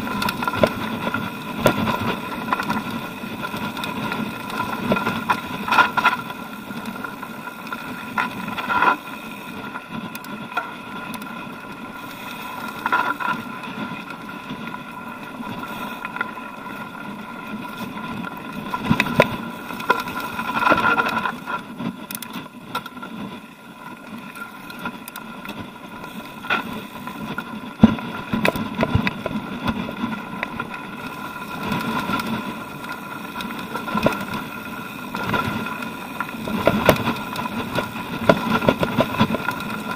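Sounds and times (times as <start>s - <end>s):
bike tyres crunching over gravel: 0.0s - 39.9s.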